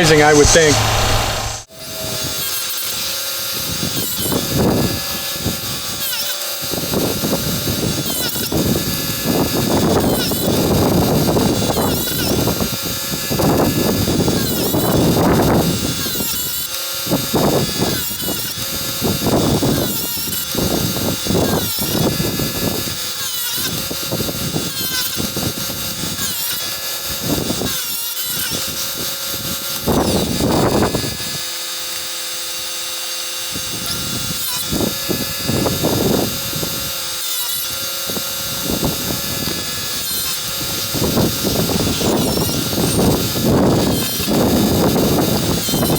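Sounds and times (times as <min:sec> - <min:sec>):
chain sharpener grinding wheel whine: 0:00.0 - 0:45.9
grinding wheel on chain teeth: 0:01.8 - 0:28.9, 0:33.6 - 0:45.9.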